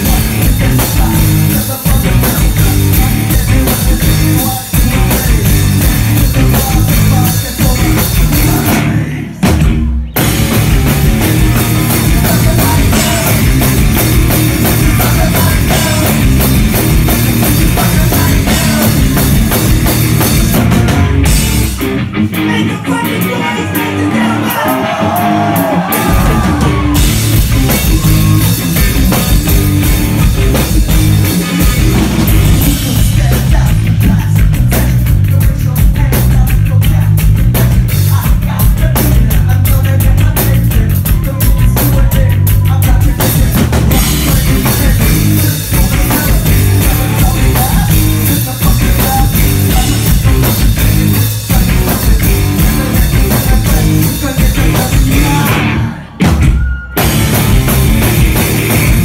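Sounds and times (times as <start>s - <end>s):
live rock band: 0.0s - 59.0s.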